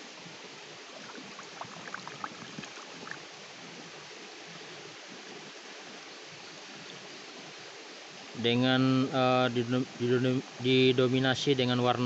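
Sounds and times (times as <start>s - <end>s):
flowing stream: 0.0s - 12.0s.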